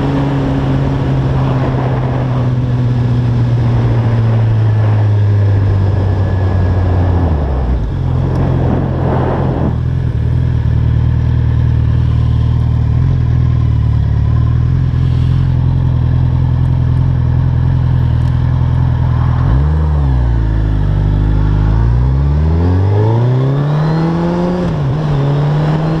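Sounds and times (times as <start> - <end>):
motorcycle engine running: 0.0 - 26.0
wind and road rush: 0.0 - 26.0.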